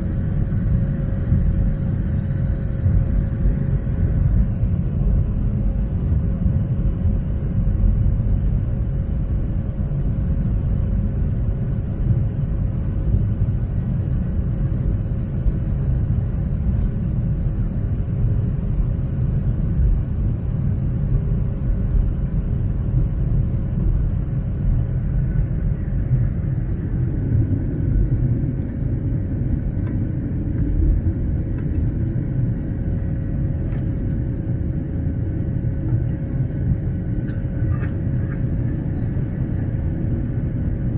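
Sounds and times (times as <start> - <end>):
airliner engine rumble: 0.0 - 40.9
faint steady hum: 0.0 - 40.9.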